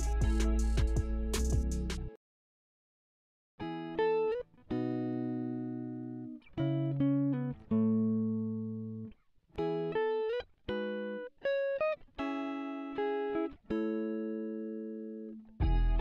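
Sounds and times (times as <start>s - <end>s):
guitar chords plucked: 0.0s - 2.1s, 3.6s - 16.0s.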